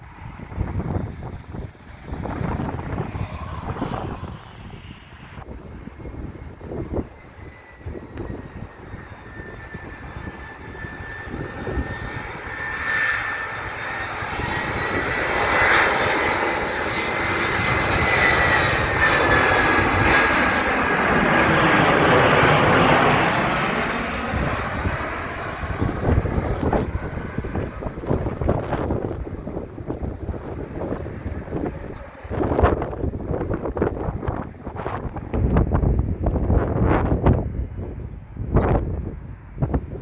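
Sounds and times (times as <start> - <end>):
airliner passing over: 0.0 - 40.0
wind buffeting microphone: 0.0 - 40.0.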